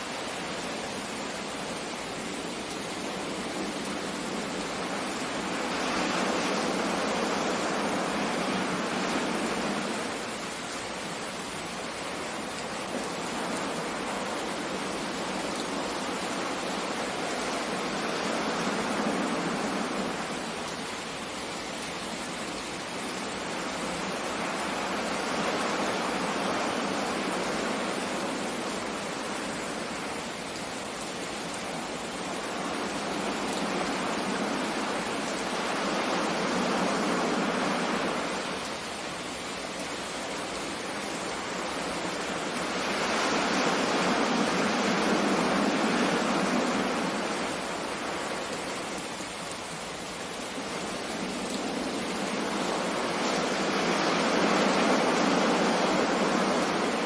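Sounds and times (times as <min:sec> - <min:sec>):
sea surf waves washing: 0:00.0 - 0:57.0.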